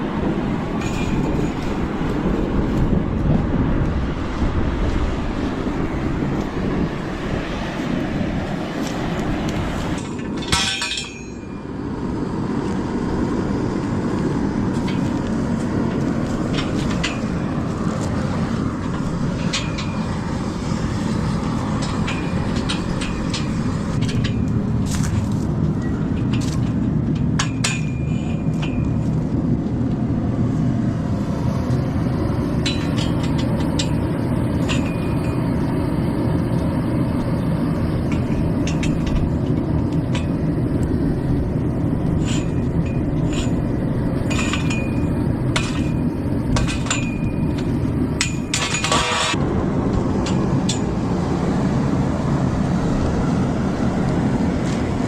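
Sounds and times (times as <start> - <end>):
low mechanical rumble: 0.0 - 55.0.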